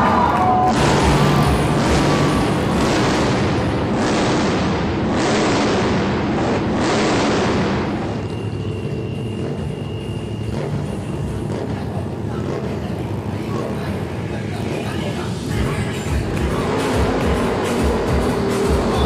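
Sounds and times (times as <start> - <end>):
crowd noise: 0.0 - 5.2, 7.5 - 19.0
motorcycle engines revving: 0.0 - 19.0.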